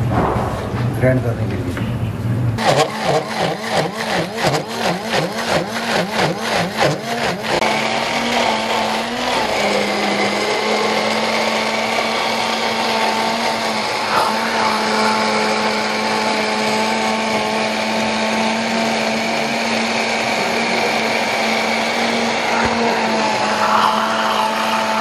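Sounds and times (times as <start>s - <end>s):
blender knock: 2.6s - 25.0s
electric blender grinding: 2.6s - 25.0s.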